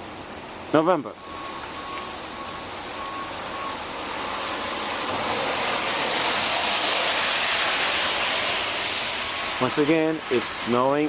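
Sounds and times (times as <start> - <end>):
rain and wet snow falling: 0.0 - 11.0.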